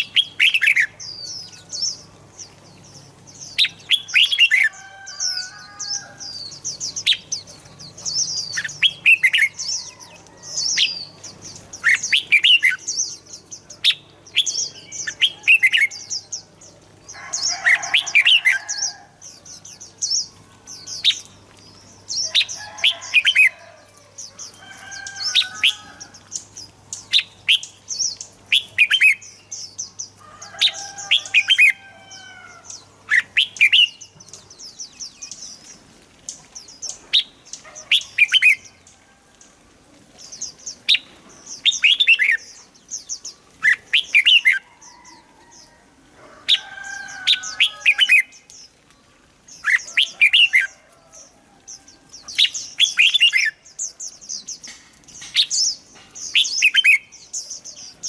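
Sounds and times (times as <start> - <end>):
bulbuls singing whistled notes: 0.0 - 23.6, 24.2 - 39.0, 40.2 - 45.7, 46.5 - 58.0.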